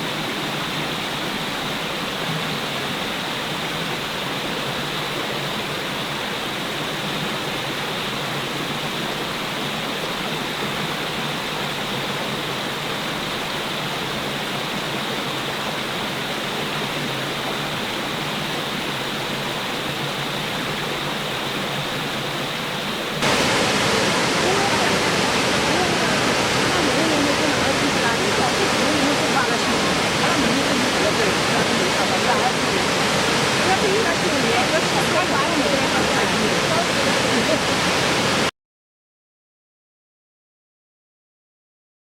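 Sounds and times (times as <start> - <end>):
rushing water: 0.0 - 38.5.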